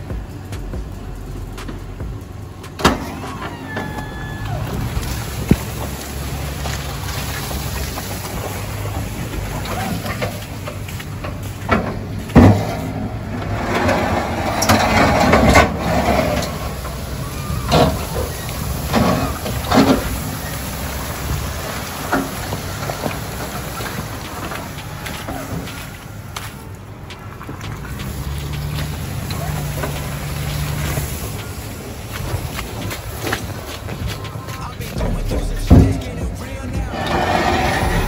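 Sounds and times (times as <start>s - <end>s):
plow blade scraping slush: 0.0s - 38.0s
truck engine humming: 0.0s - 38.0s.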